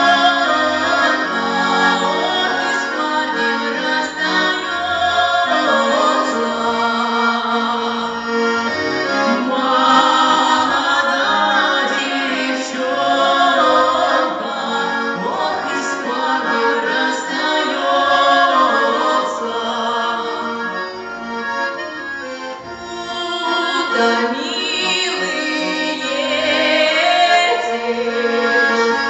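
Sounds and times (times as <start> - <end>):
singing with instrumental accompaniment: 0.0 - 21.6, 22.8 - 29.0.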